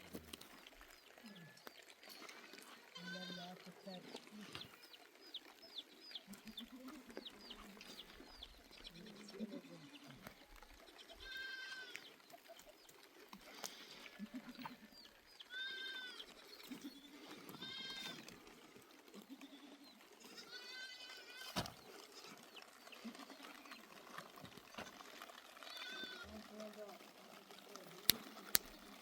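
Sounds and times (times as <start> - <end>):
goats and sheep bleating: 0.0 - 29.0.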